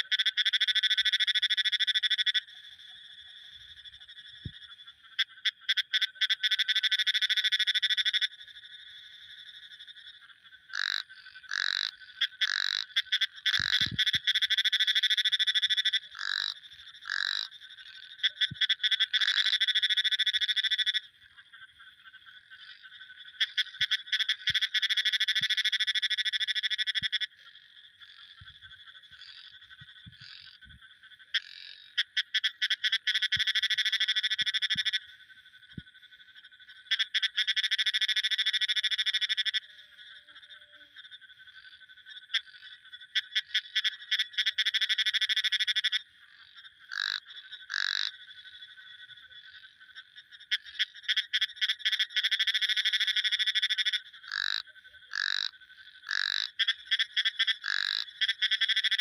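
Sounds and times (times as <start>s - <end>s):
faint frog chorus: 0.0s - 59.0s
frogs rapid pulsed calls: 0.0s - 59.0s.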